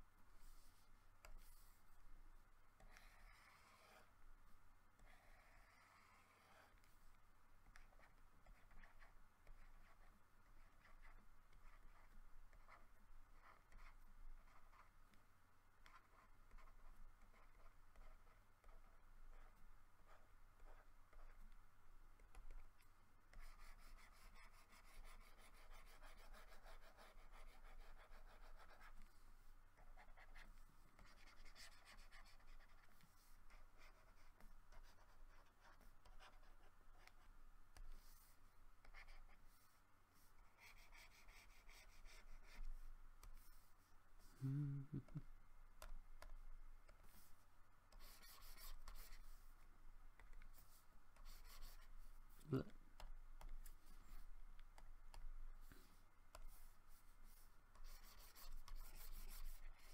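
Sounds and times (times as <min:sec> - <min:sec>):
stylus scratching on tablet: 0:00.4 - 0:01.9, 0:02.8 - 0:04.1, 0:05.0 - 0:15.2, 0:15.8 - 0:21.6, 0:22.2 - 0:45.2, 0:45.8 - 0:49.6, 0:50.2 - 0:59.9.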